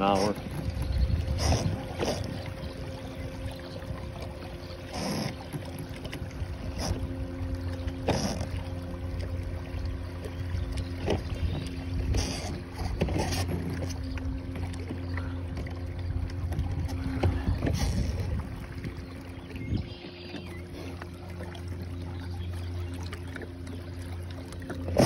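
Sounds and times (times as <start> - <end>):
electric boat motor humming: 0.0 - 25.0
water washing past hull: 0.0 - 25.0.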